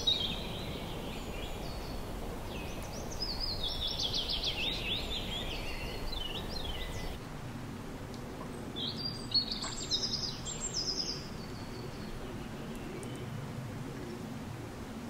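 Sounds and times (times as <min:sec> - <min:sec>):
birds chirping: 0:00.0 - 0:07.2, 0:08.5 - 0:14.2.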